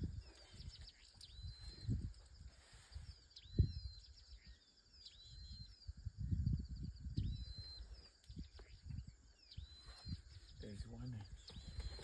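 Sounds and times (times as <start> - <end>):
faint high chirps and ticks: 0.0 - 12.0.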